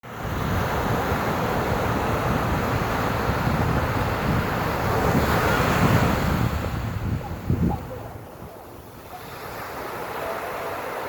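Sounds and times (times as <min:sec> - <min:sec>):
ocean waves breaking: 0:00.0 - 0:11.0
wind buffeting microphone: 0:00.0 - 0:11.0.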